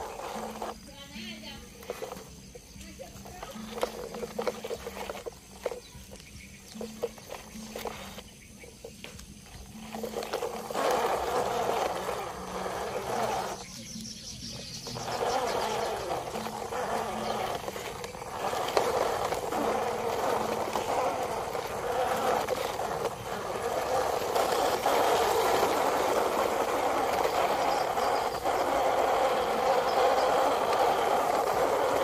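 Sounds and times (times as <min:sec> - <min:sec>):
toy trucks rolling over dirt: 0:00.0 - 0:32.0.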